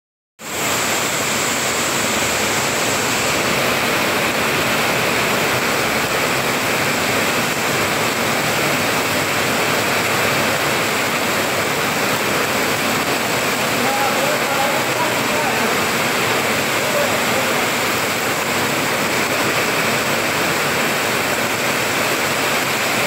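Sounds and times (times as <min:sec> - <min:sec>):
heavy rain pouring: 0:00.4 - 0:23.0
strong wind: 0:00.4 - 0:23.0.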